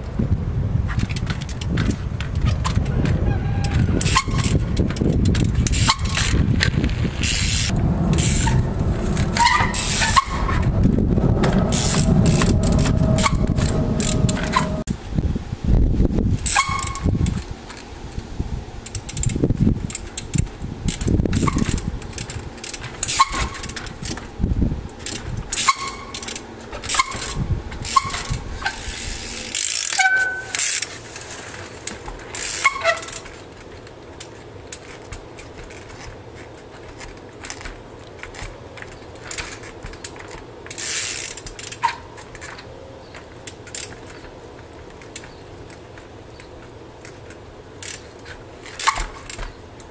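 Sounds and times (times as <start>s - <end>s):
bike knocks and rattles: 0.0s - 14.8s, 18.8s - 49.9s.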